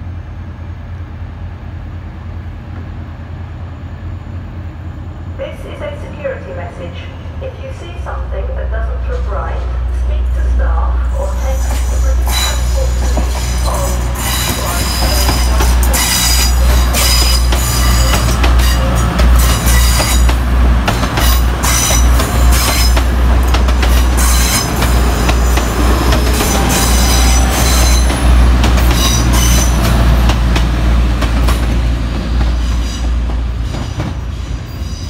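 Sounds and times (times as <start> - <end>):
diesel train passing: 0.0 - 35.0.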